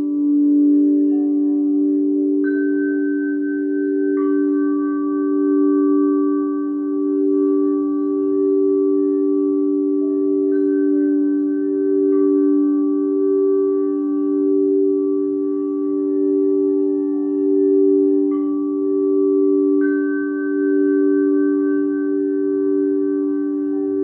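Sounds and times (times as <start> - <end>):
deep singing bowl drone: 0.0 - 24.0
higher singing bowls struck: 0.0 - 24.0.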